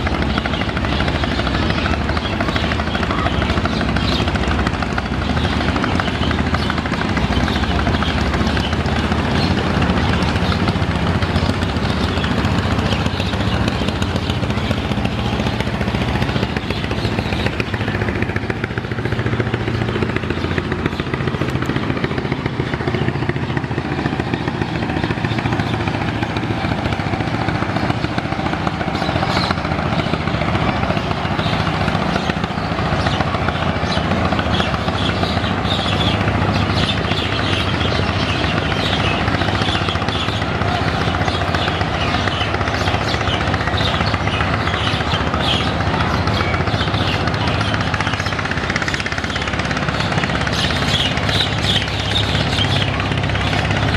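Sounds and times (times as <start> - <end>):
boat engine running: 0.0 - 53.9.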